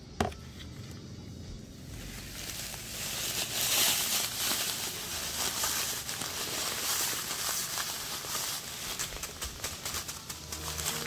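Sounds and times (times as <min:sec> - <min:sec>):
plastic bag crinkling: 0:01.9 - 0:11.0.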